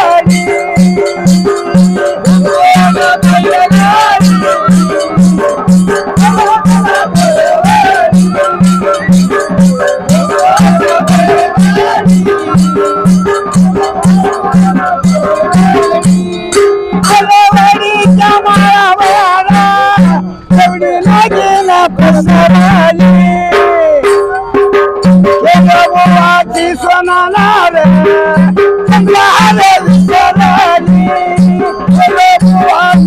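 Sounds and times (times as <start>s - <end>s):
men singing together: 0.0s - 24.5s, 25.2s - 33.0s
barrel drum beat: 0.0s - 33.0s.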